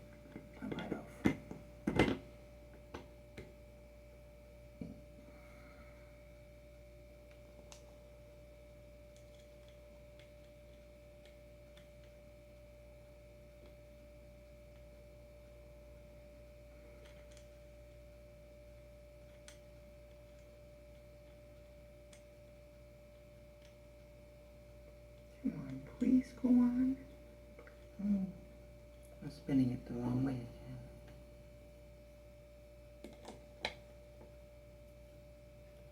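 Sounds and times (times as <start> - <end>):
faint electrical hum: 0.0 - 35.9.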